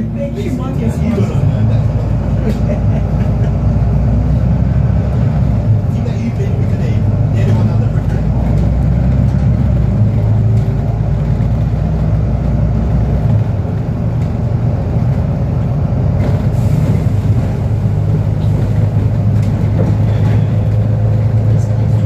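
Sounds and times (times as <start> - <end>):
bus engine and road noise: 0.0 - 22.0
deep rumble: 0.0 - 22.0.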